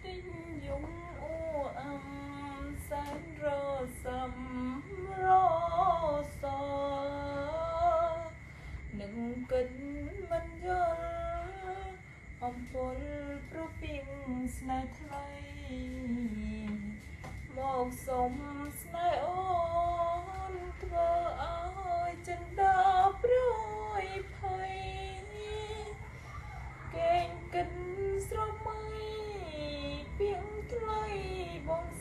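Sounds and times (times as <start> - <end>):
woman singing slow melody: 0.0 - 32.0.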